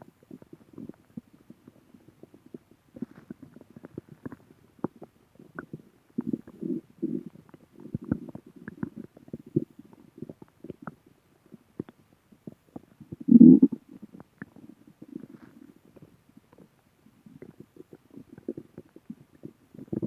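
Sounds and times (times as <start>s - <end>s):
stomach growling: 0.2s - 20.0s.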